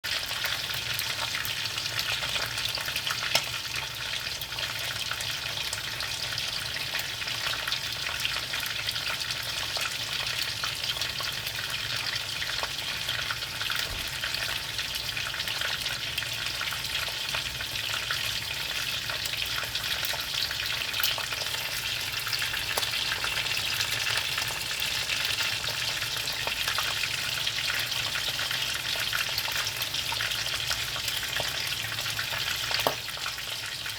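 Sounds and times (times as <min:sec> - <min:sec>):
squid sizzling in hot oil: 0:00.1 - 0:33.9.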